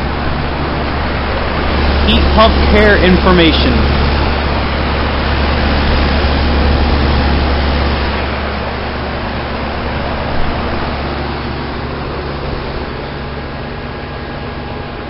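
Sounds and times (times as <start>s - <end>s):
compressor hum: 0.0s - 15.0s
fan air rushing: 0.0s - 15.0s.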